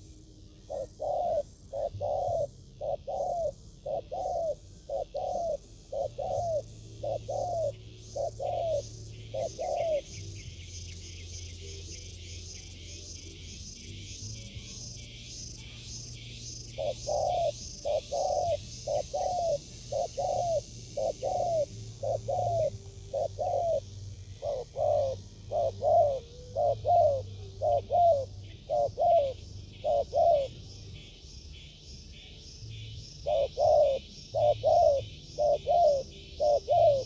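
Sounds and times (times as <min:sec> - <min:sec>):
dove cooing: 0:00.0 - 0:30.8, 0:33.1 - 0:37.0.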